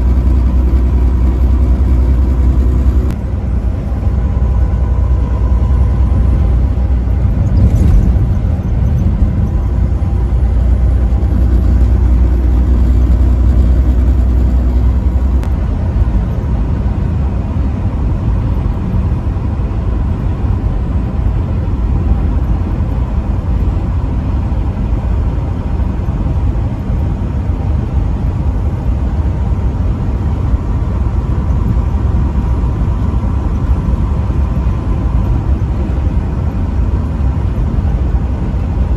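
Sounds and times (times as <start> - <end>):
vehicle driving on highway: 0.0 - 38.9.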